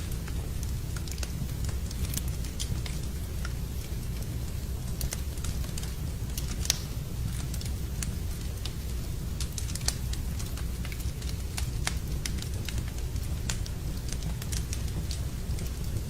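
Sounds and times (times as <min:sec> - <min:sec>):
fire popping: 0:00.0 - 0:16.0
low fire rumble: 0:00.0 - 0:16.0
wood fire crackling: 0:00.0 - 0:16.0.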